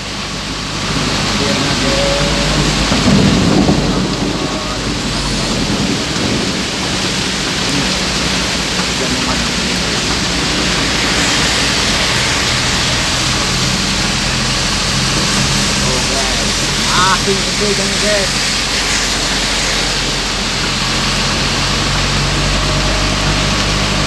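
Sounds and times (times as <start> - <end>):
low rumble: 0.0 - 23.7
car engine low hum: 0.0 - 24.0
heavy rain on a car: 0.0 - 24.0.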